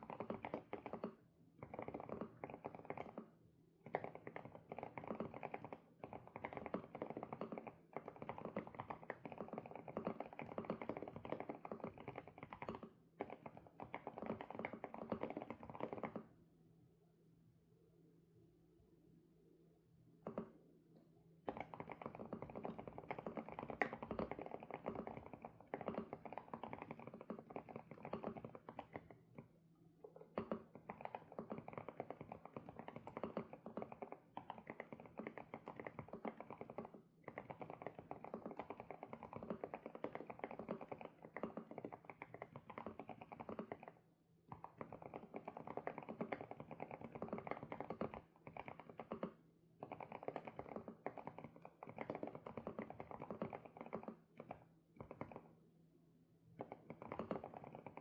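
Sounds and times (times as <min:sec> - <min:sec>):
fast typing on mechanical keyboard: 0:00.0 - 0:03.3, 0:03.9 - 0:16.2, 0:21.5 - 0:29.2, 0:30.4 - 0:55.5, 0:56.6 - 0:58.0.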